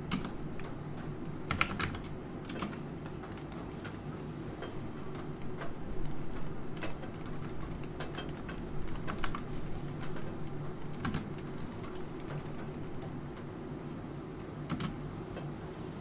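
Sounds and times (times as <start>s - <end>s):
keyboard keys clicking: 0.1s - 4.0s, 5.0s - 13.5s, 14.7s - 15.5s.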